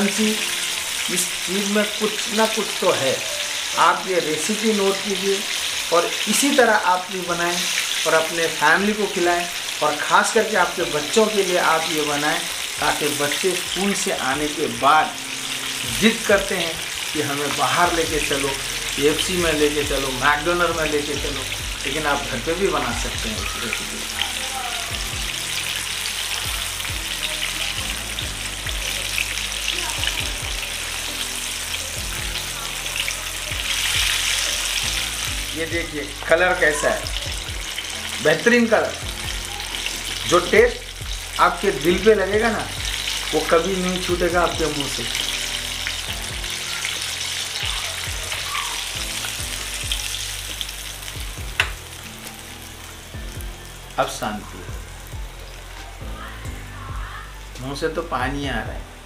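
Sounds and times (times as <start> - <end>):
chicken deep-frying in oil: 0.0 - 58.8.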